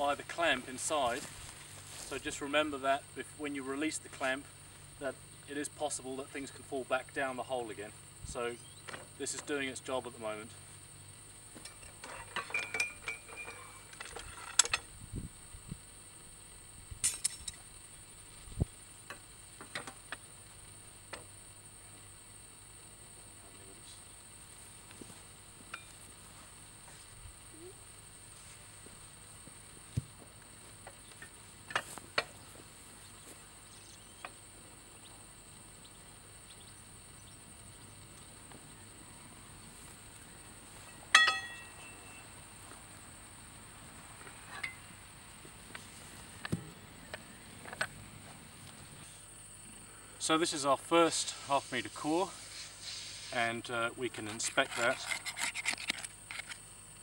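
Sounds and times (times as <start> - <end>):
high-pitched insect trill: 0.0 - 57.0.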